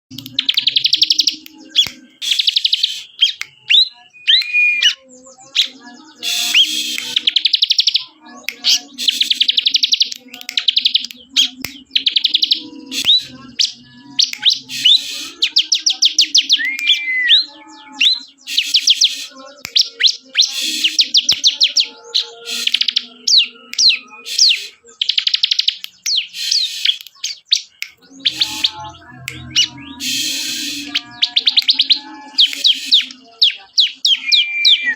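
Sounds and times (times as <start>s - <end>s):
bird singing rapid trills: 0.1s - 34.9s
bird whistled notes: 0.2s - 34.9s.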